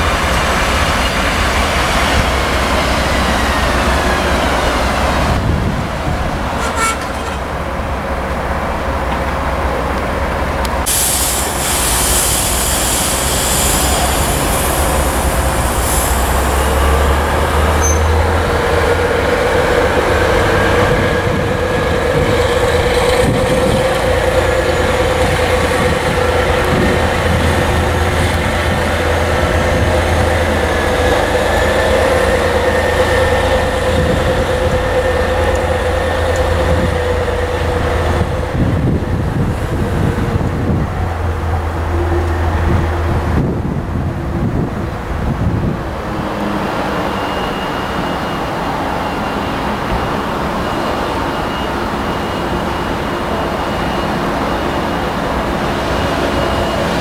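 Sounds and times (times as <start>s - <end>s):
diesel locomotive engine droning: 0.0s - 57.0s.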